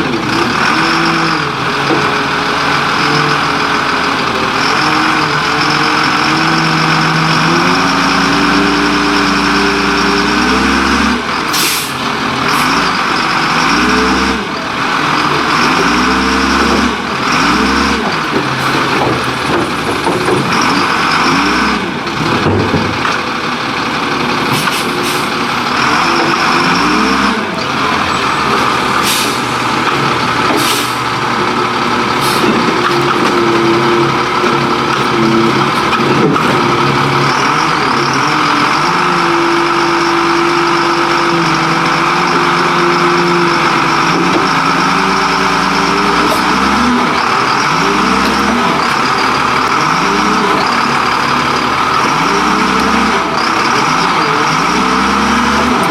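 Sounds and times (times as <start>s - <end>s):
garbage truck engine revving: 0.0s - 55.9s.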